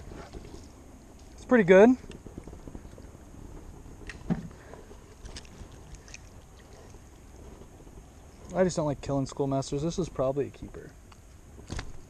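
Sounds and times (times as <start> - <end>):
low steady background noise: 0.0 - 12.0.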